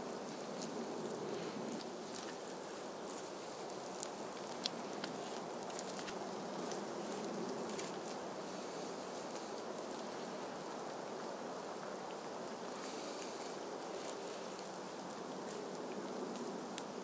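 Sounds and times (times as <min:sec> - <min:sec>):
background hiss: 0:00.0 - 0:17.0
campfire crackling: 0:00.0 - 0:17.0.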